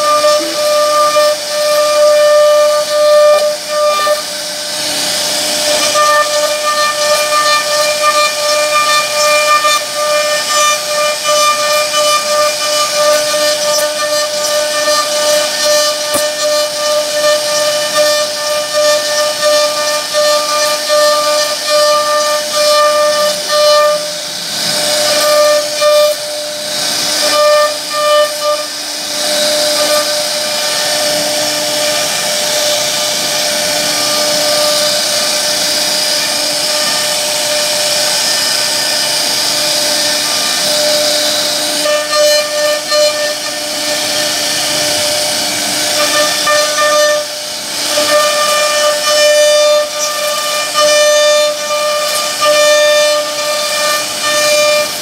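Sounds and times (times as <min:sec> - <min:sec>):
hissing rush of wood cutting: 0:00.0 - 0:55.0
router spindle whining: 0:00.0 - 0:55.0.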